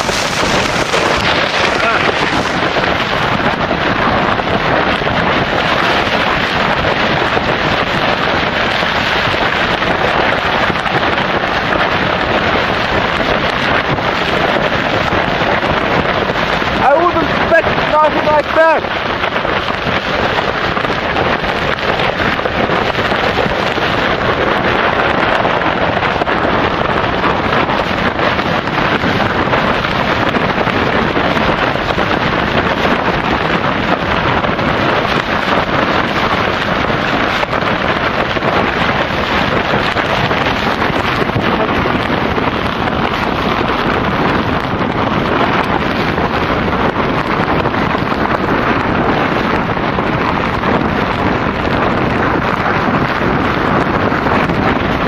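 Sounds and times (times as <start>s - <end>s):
strong wind blowing: 0.0s - 55.0s.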